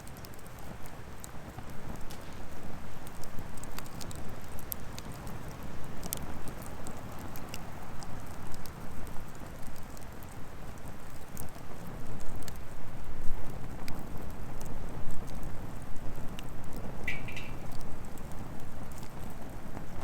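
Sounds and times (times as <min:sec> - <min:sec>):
firewood crackling and popping: 0:00.0 - 0:20.0.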